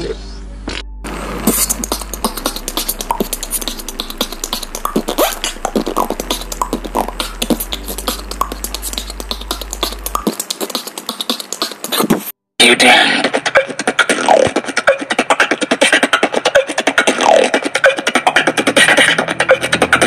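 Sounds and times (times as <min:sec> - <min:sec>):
person beatboxing: 0:01.4 - 0:20.0.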